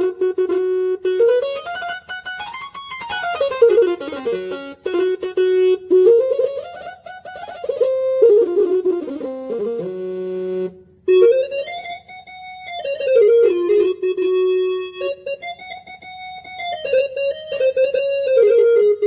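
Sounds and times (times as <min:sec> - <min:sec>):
electronic keyboard melody: 0:00.0 - 0:19.0.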